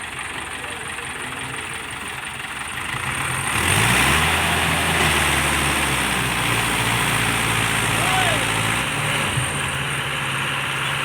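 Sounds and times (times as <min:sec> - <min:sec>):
heavy diesel engine revving: 0:00.0 - 0:11.0.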